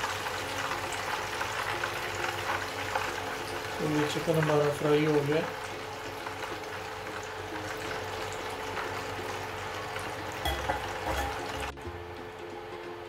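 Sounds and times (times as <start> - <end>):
oil sizzling in a wok: 0.0 - 11.9.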